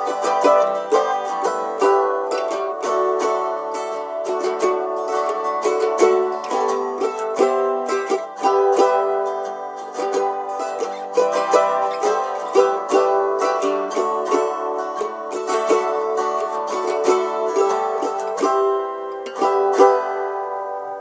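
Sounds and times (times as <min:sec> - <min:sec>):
mandolin playing: 0:00.0 - 0:21.0.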